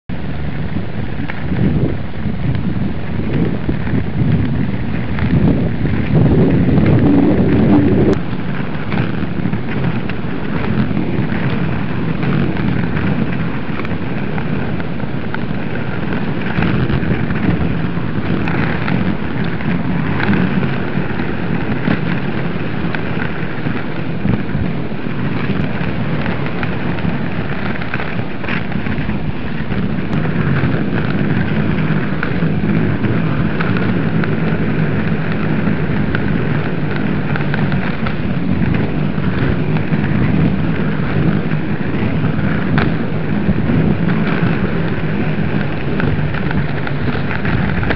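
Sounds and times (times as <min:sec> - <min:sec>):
skate wheels rolling on tarmac: 0:00.1 - 0:47.9.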